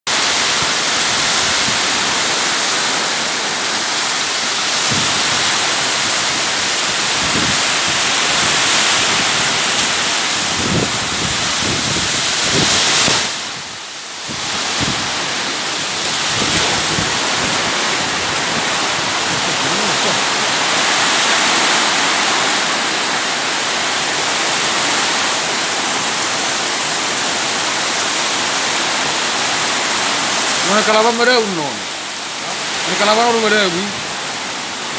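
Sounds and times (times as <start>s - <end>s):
heavy rain in strong wind: 0.1s - 34.9s.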